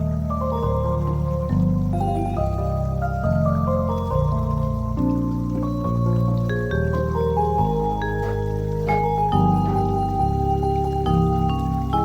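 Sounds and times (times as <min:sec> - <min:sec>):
held chords: 0:00.0 - 0:12.0
soft mallet percussion music: 0:00.0 - 0:12.0.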